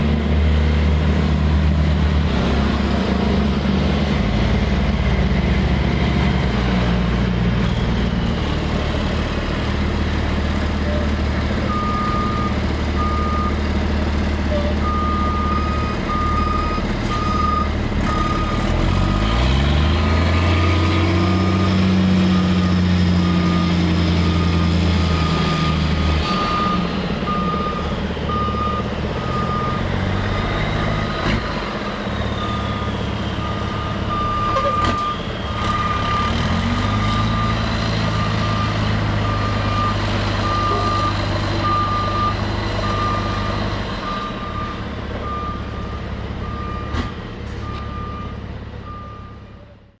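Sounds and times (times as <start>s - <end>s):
diesel truck engines running: 0.0s - 50.0s.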